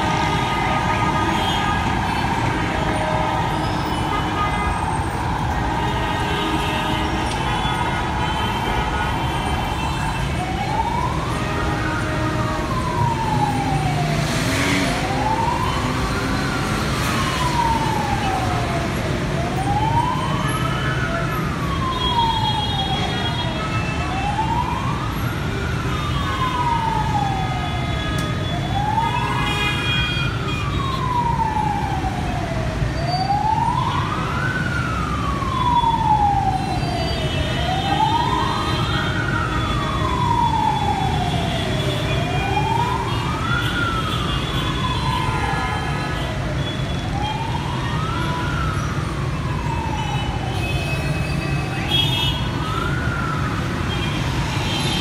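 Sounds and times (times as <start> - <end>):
emergency siren wailing: 0.0 - 55.0
road traffic noise: 0.0 - 55.0.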